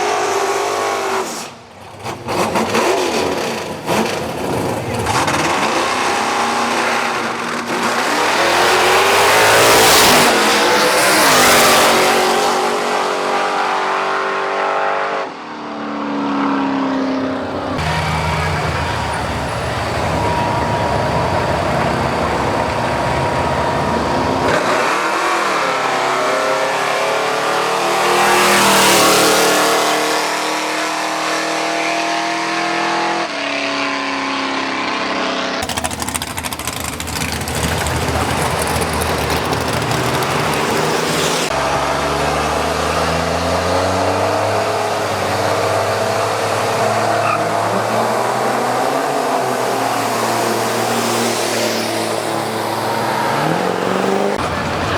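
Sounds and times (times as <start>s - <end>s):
drag racing engines accelerating: 0.0s - 54.9s.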